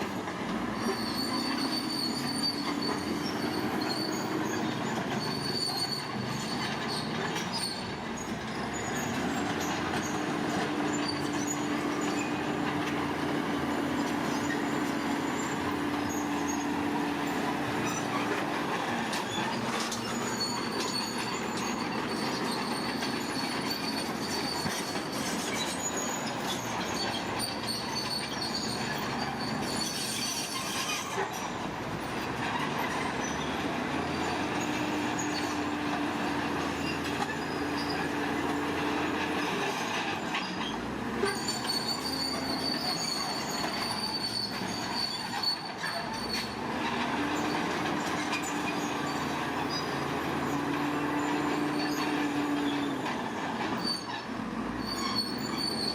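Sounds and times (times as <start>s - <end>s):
bulldozer engine clattering: 0.0s - 55.9s
crawler tracks squealing: 0.0s - 55.9s.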